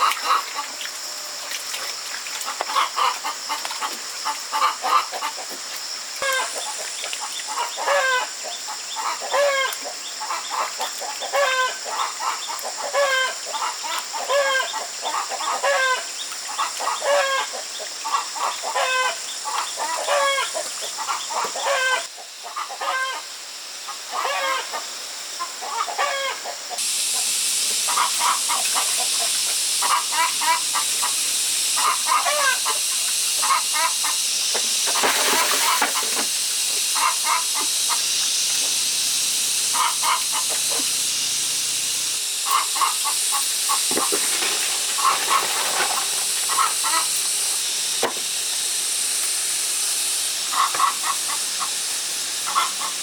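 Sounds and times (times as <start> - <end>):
chickens clucking: 2.4 - 5.6, 6.2 - 23.2, 24.1 - 24.8, 25.4 - 38.9, 39.5 - 41.9, 42.5 - 48.2, 50.5 - 53.0
steady loud hiss: 2.5 - 53.0.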